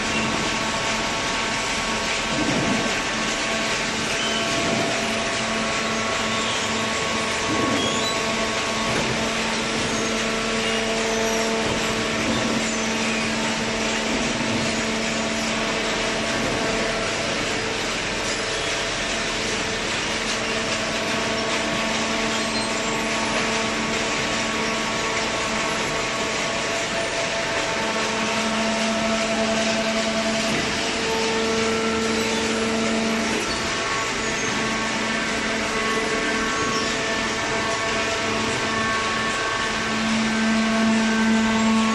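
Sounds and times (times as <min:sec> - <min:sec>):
paper baler machine hum: 0:00.0 - 0:41.9.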